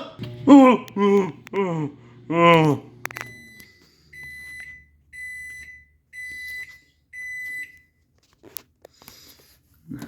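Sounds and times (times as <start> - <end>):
microwave oven beeping: 0.0 - 8.2.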